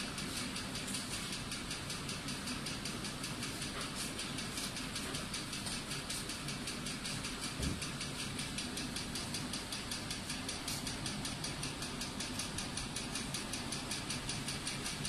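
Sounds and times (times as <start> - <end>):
mechanical running noise: 0.0 - 15.0
fast even ticking: 0.1 - 15.0.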